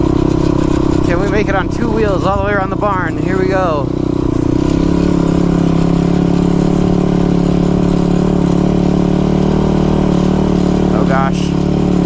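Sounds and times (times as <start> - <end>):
quad engine running: 0.0 - 12.0.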